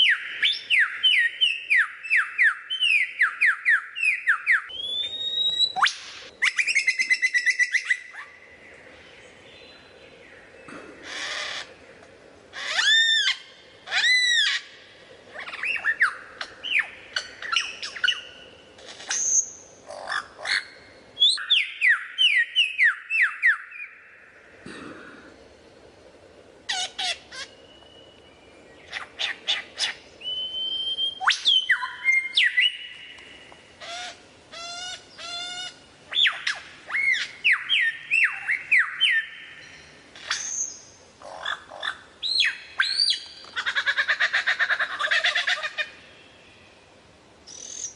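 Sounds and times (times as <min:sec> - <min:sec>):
lyrebird singing: 0:00.0 - 0:24.1, 0:26.7 - 0:46.6, 0:47.5 - 0:47.9.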